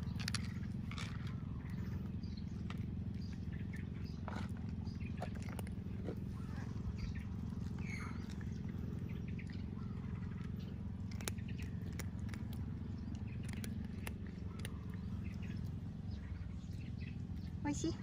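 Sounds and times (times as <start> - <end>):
cat crunching dry kibble: 0.0 - 17.5
cat purring: 0.0 - 17.9.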